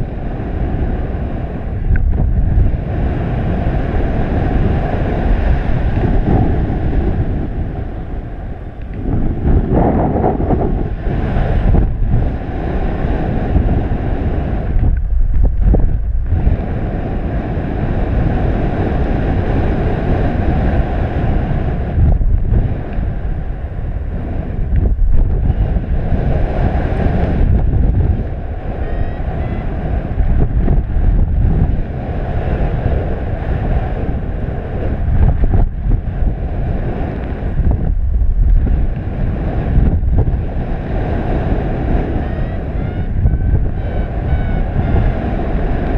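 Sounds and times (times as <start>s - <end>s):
wind rumble on microphone: 0.0s - 45.9s.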